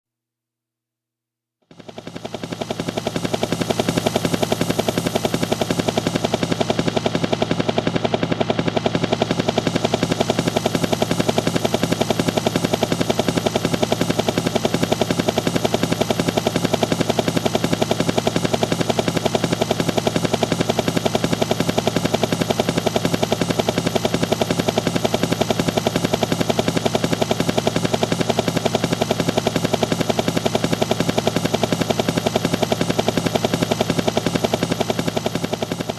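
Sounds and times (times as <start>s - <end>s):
helicopter rotor blades chopping: 1.7s - 35.9s.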